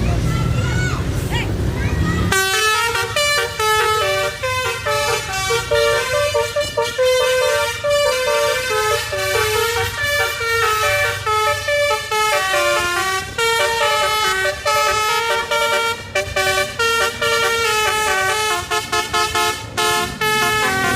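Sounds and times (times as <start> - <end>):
musical vehicle horns playing tune: 2.3 - 20.9.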